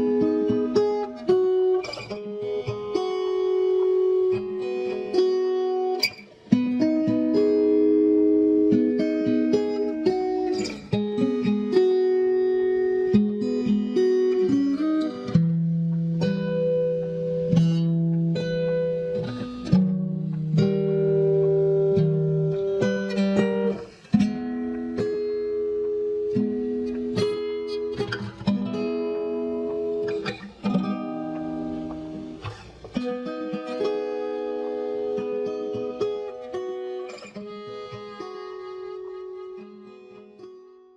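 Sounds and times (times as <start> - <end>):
plucked guitar melody: 0.0 - 40.9.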